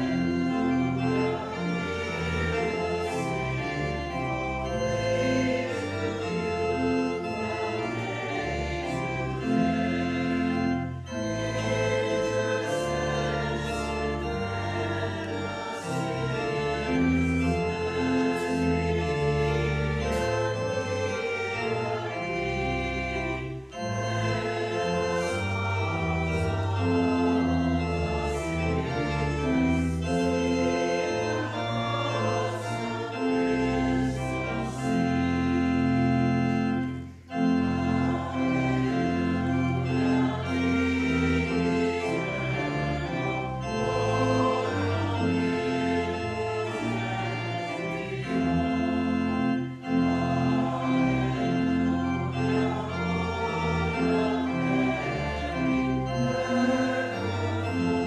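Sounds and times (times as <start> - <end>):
congregation singing: 0.0 - 58.0
pipe organ playing a hymn: 0.0 - 58.0.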